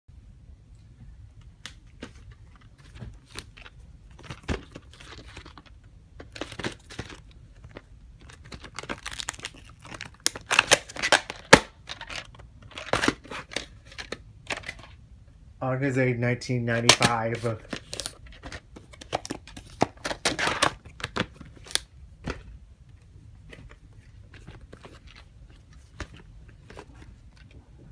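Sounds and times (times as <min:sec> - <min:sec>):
plastic cases being handled: 0:01.5 - 0:15.0, 0:16.7 - 0:27.9.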